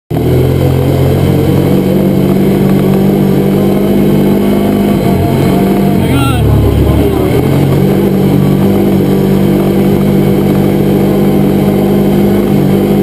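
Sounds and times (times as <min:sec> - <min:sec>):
off-road vehicle engine running: 0:00.1 - 0:13.0.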